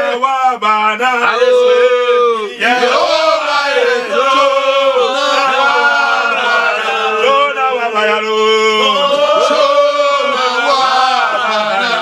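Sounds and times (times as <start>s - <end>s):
men singing a prayer chant: 0.0s - 12.0s.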